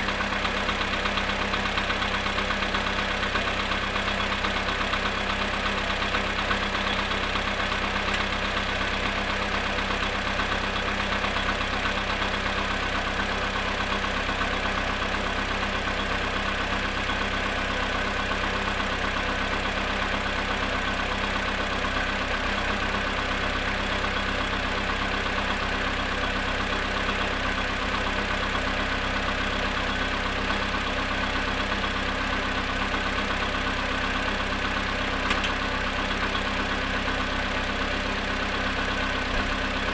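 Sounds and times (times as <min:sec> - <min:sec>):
car engine idling: 0:00.0 - 0:39.9
engine knock: 0:00.0 - 0:39.9.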